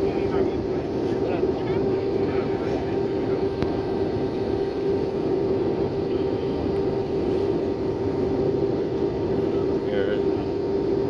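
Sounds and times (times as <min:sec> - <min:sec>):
airflow rush in aircraft cabin: 0:00.0 - 0:11.0
jet engine hum: 0:00.0 - 0:11.0
steady droning tone: 0:00.0 - 0:11.0.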